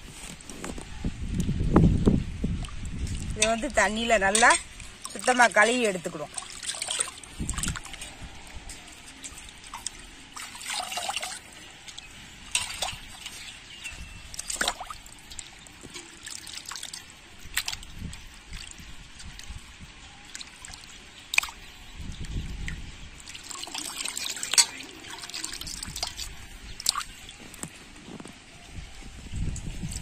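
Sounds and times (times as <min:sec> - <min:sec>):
water splashing in a basin: 0:02.5 - 0:27.8.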